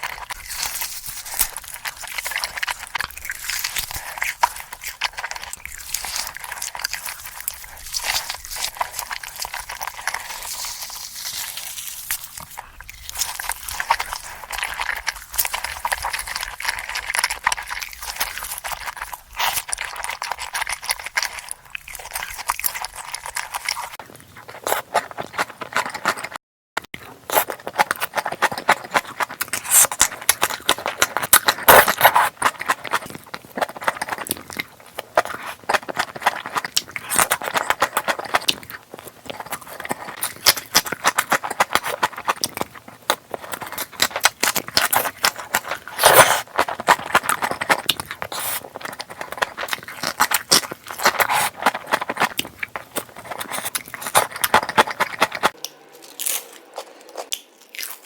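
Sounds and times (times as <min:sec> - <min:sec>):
chewing and crunching: 0:00.0 - 0:58.0.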